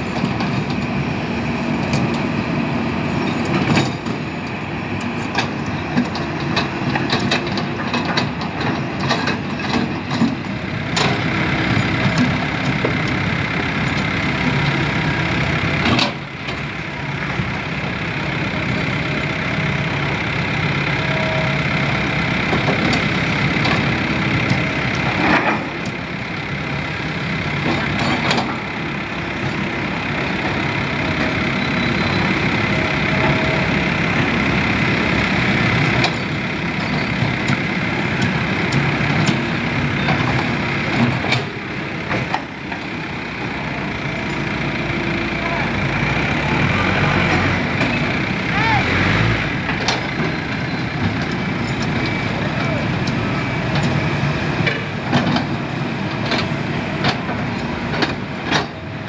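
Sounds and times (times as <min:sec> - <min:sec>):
excavator diesel engines running: 0:00.0 - 0:59.0.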